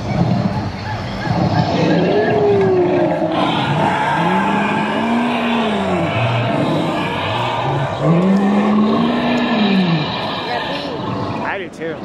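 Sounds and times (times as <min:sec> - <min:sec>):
dinosaur roar through loudspeakers: 0:01.2 - 0:11.6.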